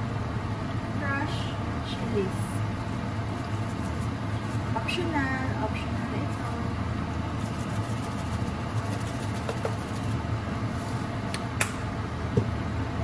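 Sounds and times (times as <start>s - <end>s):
mechanical hum with hiss: 0.0s - 13.0s.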